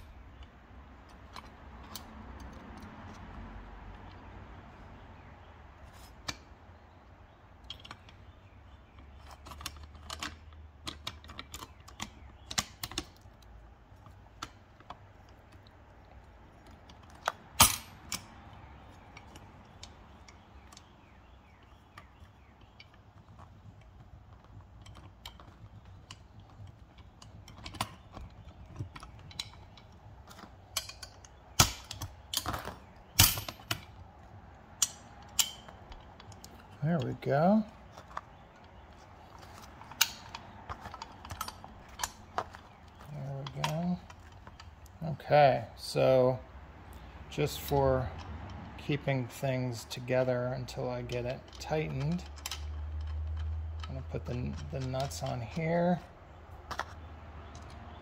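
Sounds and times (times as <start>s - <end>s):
steel parts clicking: 9.0s - 21.0s, 21.6s - 45.2s, 45.8s - 58.0s.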